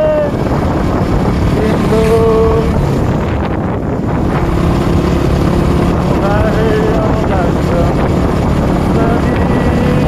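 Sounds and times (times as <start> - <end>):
motorcycle engine: 0.0 - 10.0
wind rushing over microphone: 0.0 - 10.0.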